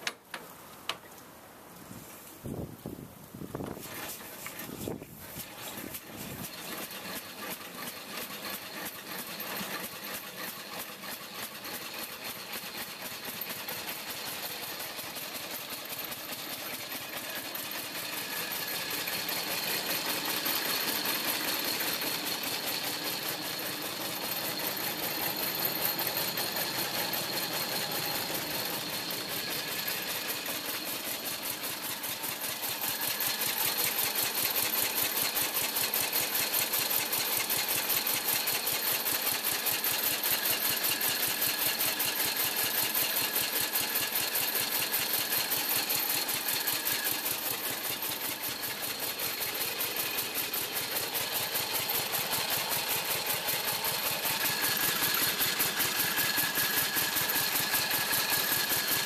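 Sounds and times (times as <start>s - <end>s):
single-cylinder engine idling: 3.6s - 59.0s.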